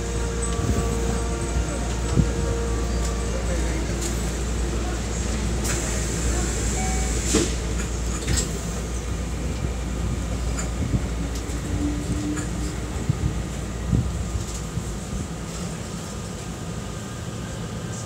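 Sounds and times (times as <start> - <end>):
train car hum: 0.0 - 18.0.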